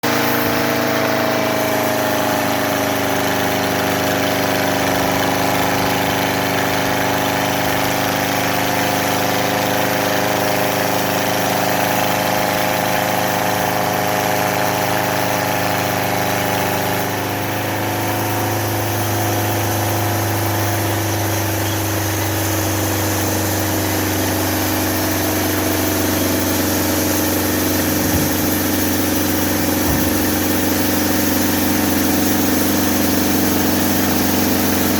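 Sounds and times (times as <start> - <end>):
sawmill engine running: 0.0 - 34.9.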